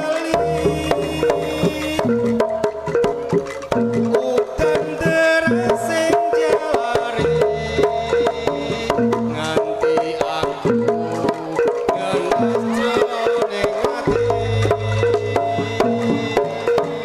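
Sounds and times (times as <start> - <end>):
hand drums beating fast rhythm: 0.0 - 17.0
tuned percussion melody: 0.0 - 17.0.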